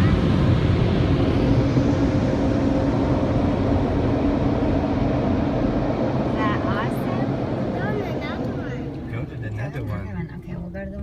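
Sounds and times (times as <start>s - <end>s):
car wash water rushing on car: 0.0s - 11.0s
steady hum: 0.0s - 11.0s.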